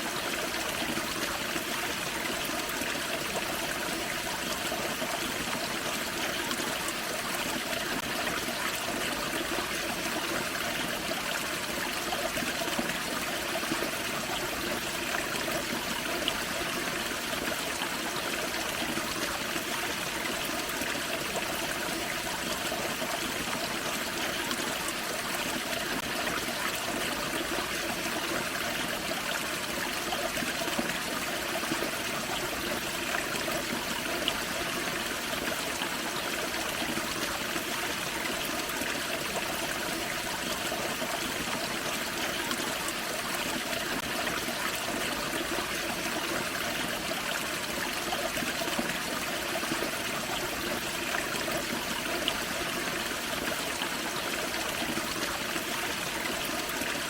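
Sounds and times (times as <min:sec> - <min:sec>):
waterfall and creek running: 0:00.0 - 0:57.0.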